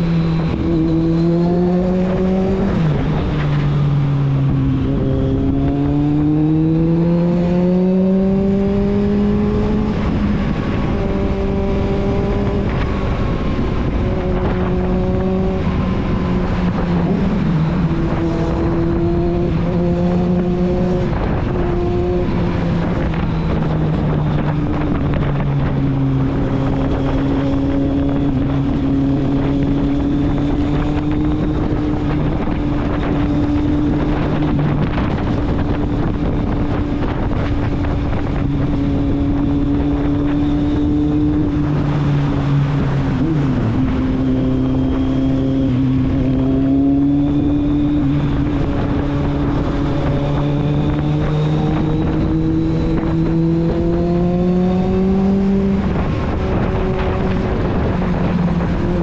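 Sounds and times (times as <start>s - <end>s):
motorcycle engine under way: 0.0s - 59.0s
wind noise on microphone: 0.0s - 59.0s.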